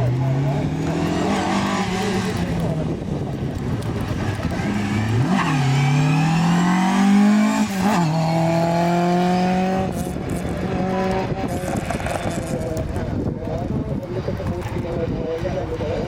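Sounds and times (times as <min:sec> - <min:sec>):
rally car accelerating hard: 0:00.0 - 0:13.4
engine upshifts: 0:00.0 - 0:13.6.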